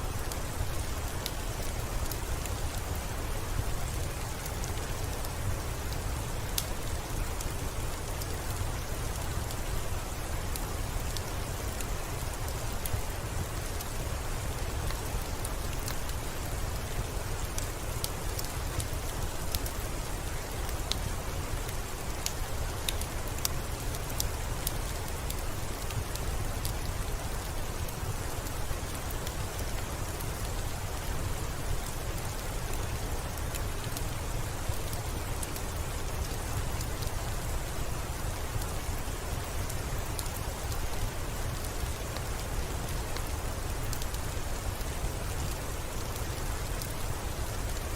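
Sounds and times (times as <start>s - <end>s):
rain on window glass: 0.0s - 47.9s.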